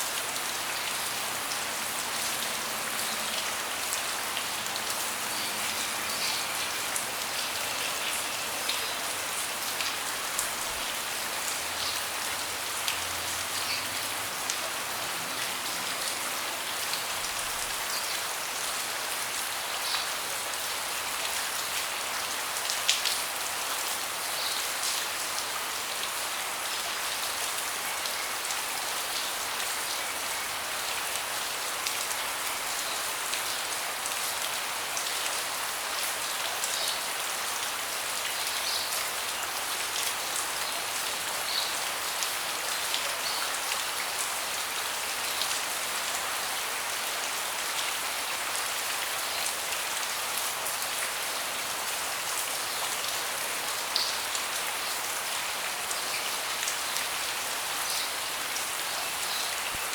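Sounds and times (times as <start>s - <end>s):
rain falling on a deck: 0.0s - 59.9s.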